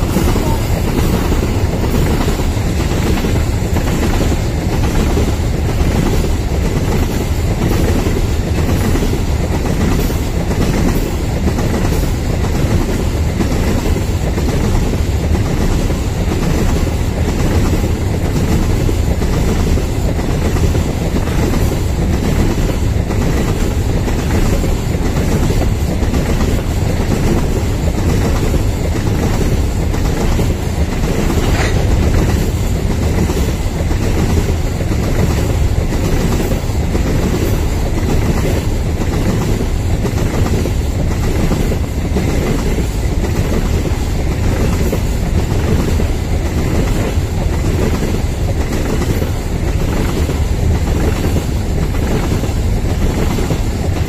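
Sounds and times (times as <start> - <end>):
clickety-clack over rail joints: 0.0 - 54.0
train wheels rumbling: 0.0 - 54.0.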